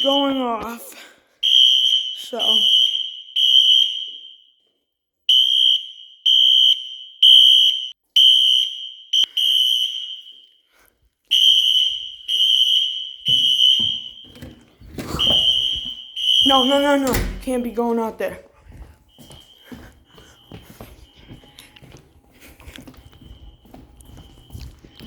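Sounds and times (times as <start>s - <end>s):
fire alarm horn beeping: 0.0s - 0.6s, 1.4s - 4.6s, 5.3s - 10.7s, 11.3s - 18.2s, 19.0s - 25.0s.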